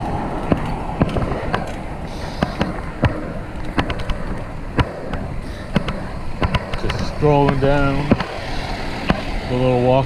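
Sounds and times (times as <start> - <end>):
bike sharp clicks and knocks: 0.0 - 9.8
wind and road noise: 0.0 - 10.0.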